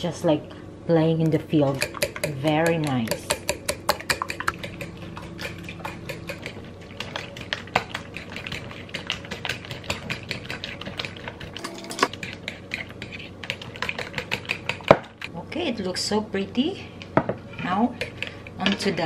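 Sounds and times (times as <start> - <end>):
fork beating eggs in a bowl: 1.5 - 15.3, 17.5 - 19.0.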